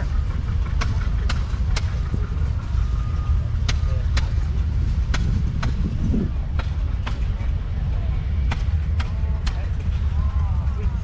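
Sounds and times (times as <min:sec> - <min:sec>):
faint voices: 0:00.0 - 0:11.0
old engine rumbling and popping: 0:00.0 - 0:11.0.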